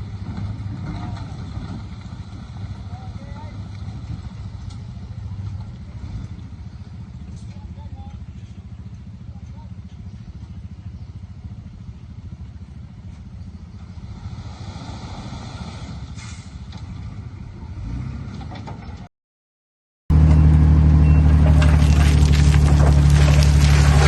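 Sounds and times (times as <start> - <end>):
diesel machinery rumbling: 0.0 - 19.1, 20.1 - 24.0.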